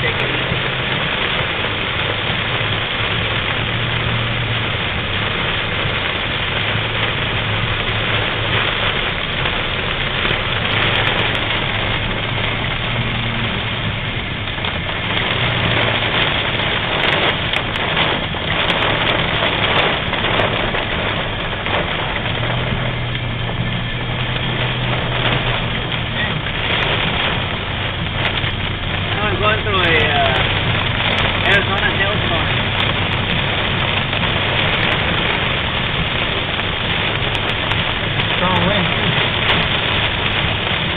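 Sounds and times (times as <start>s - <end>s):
car engine hum: 0.0s - 40.9s
rain and hail on car roof: 0.0s - 40.9s.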